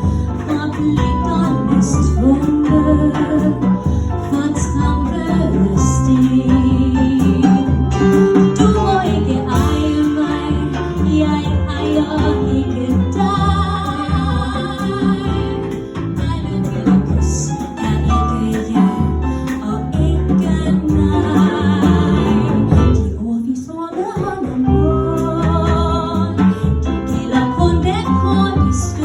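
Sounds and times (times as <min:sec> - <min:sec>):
small band playing live: 0:00.0 - 0:29.0.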